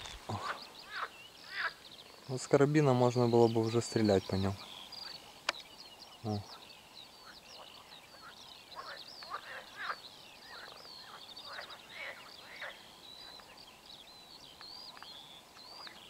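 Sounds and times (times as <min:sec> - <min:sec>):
sharp down-slurred bird calls: 0:00.0 - 0:16.0
small birds chirping: 0:00.0 - 0:16.0.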